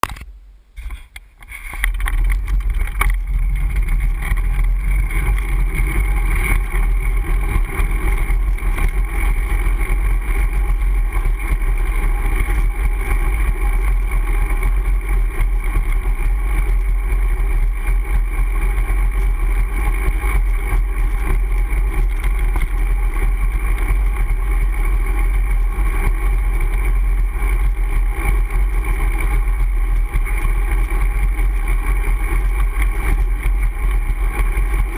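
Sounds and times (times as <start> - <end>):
road noise: 0.4 - 34.9.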